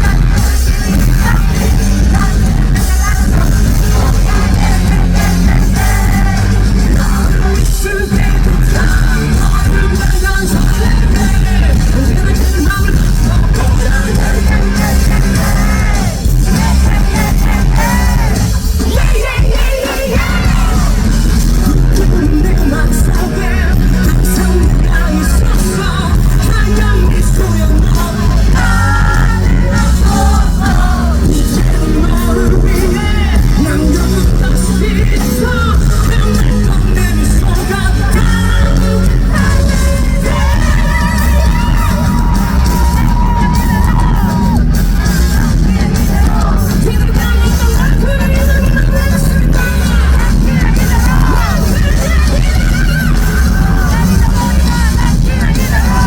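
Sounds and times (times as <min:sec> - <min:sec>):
crowd yelling and whooping: 0:00.0 - 0:56.0
rock band playing live: 0:00.0 - 0:56.0.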